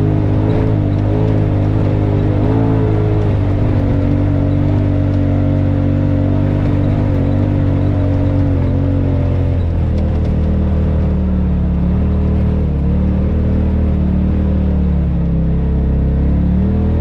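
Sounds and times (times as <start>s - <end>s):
utv engine running: 0.0s - 17.0s.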